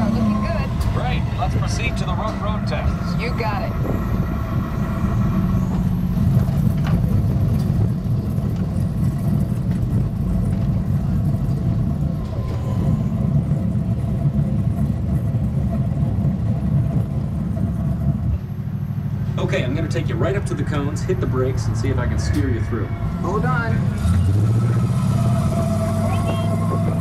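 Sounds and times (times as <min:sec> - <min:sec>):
ride vehicle rumbling on track: 0:00.0 - 0:27.0.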